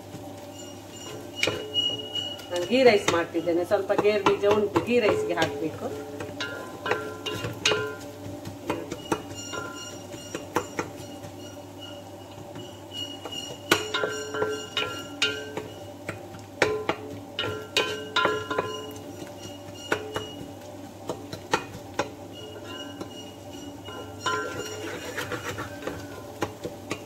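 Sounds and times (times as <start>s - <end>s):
wooden spatula knocking on metal pot: 1.0s - 27.0s.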